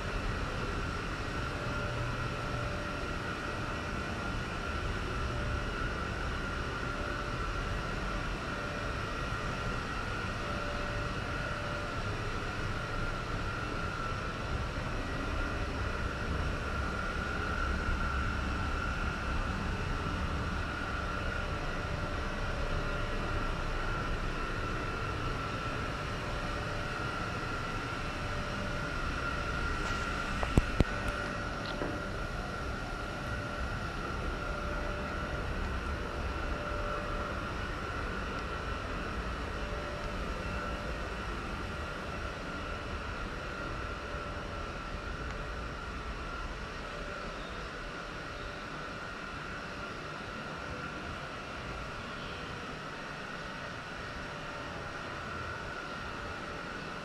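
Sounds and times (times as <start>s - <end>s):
mechanical drone with whine: 0.0s - 57.0s.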